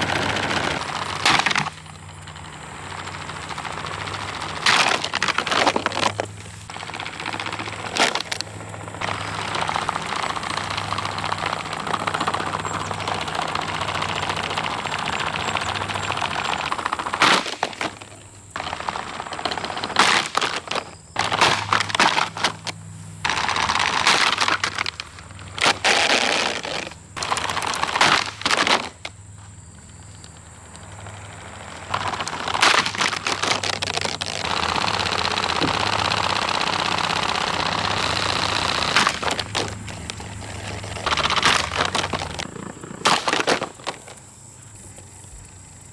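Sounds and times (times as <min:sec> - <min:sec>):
plastic rattling and cracking: 0:00.0 - 0:45.0
fan motor hum: 0:00.0 - 0:45.9.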